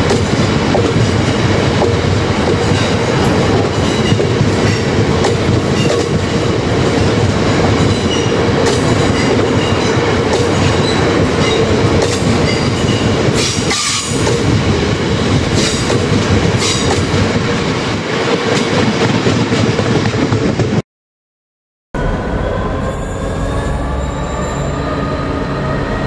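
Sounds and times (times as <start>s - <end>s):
steady train whine: 0.0s - 20.8s, 22.0s - 26.0s.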